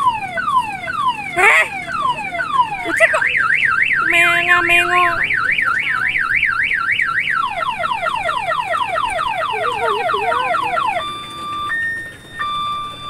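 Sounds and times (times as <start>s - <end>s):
electronic siren: 0.0s - 13.0s.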